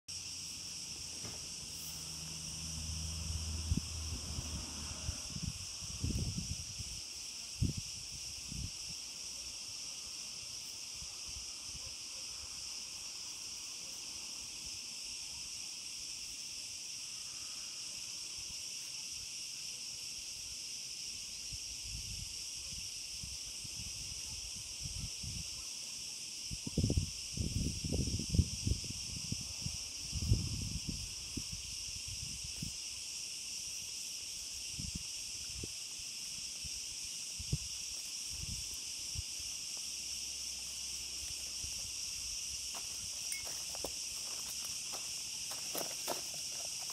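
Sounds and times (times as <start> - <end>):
insects chirring: 0.1 - 46.9.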